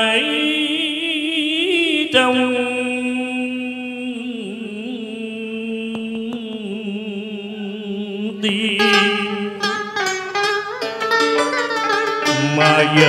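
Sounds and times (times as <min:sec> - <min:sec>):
man singing long note with vibrato: 0:00.0 - 0:10.0, 0:12.1 - 0:13.0.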